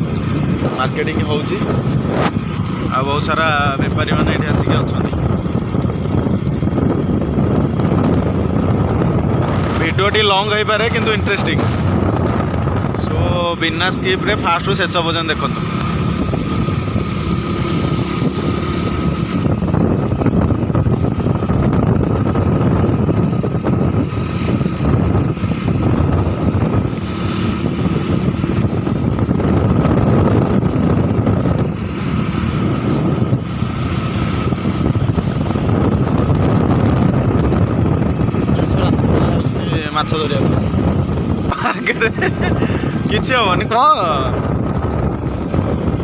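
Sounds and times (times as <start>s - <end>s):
vehicle running: 0.0s - 46.0s
wind rushing over microphone: 0.0s - 46.0s.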